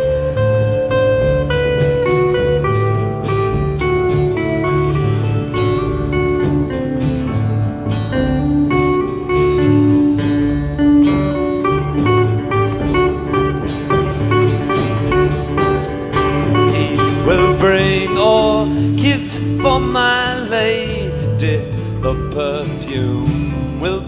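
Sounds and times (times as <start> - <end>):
bass line: 0.0 - 24.0
drums: 0.0 - 24.0
lead guitar notes: 0.0 - 24.0.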